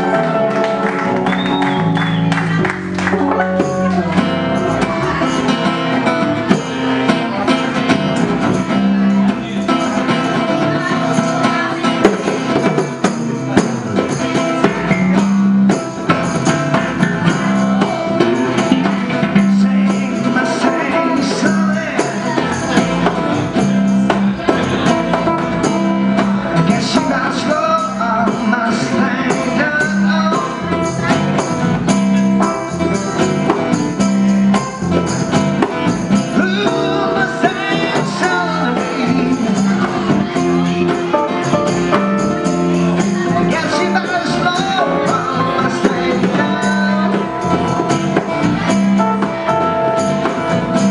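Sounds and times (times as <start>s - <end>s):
bongos: 0.0s - 50.9s
electric guitar: 0.0s - 50.9s
strummed acoustic guitars: 0.0s - 50.9s.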